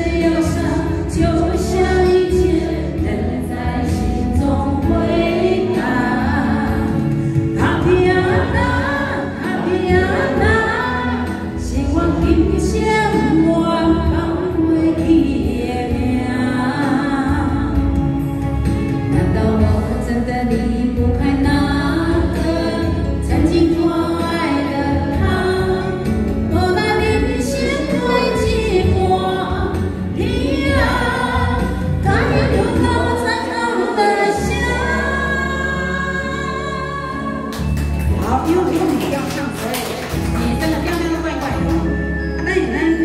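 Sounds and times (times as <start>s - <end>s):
woman singing into microphone: 0.0s - 18.4s, 19.0s - 39.1s, 40.2s - 43.0s
backing track music: 0.0s - 43.0s.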